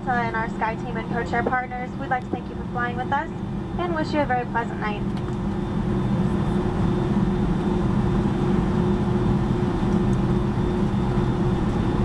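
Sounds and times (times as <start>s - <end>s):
aircraft engines idling drone: 0.0s - 12.0s
steady hums: 0.0s - 12.0s.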